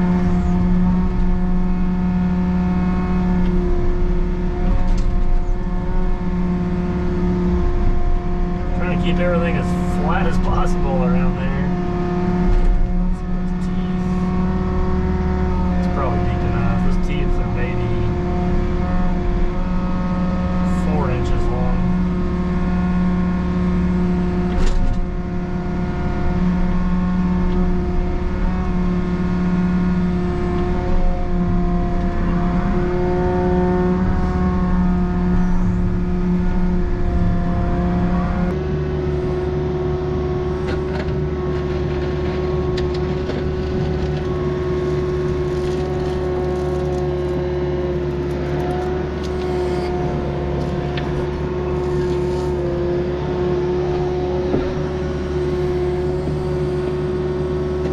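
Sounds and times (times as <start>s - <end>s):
diesel excavator engine droning: 0.0s - 57.9s
hydraulic whine: 0.0s - 57.9s.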